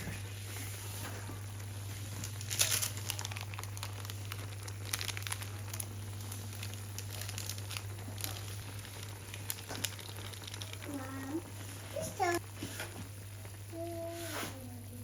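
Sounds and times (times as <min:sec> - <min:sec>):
crinkling and rustling: 0:00.0 - 0:13.2
steady low hum: 0:00.0 - 0:15.0.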